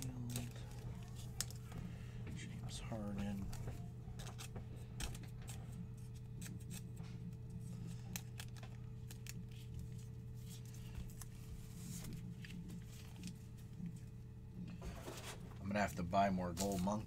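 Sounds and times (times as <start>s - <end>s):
trading cards clicking and scraping: 0.0s - 14.0s, 16.5s - 17.0s
steady low hum: 0.0s - 17.0s.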